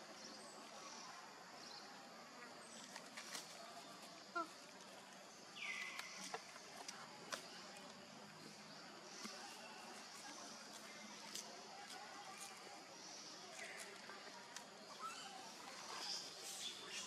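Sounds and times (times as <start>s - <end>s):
faint insect drone: 0.0s - 17.0s.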